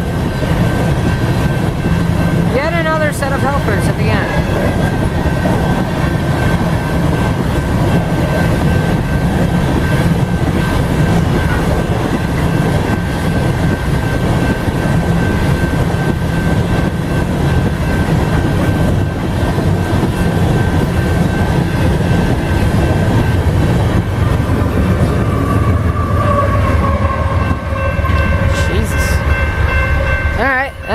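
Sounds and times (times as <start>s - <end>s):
train wheels clattering on rails: 0.0s - 30.9s.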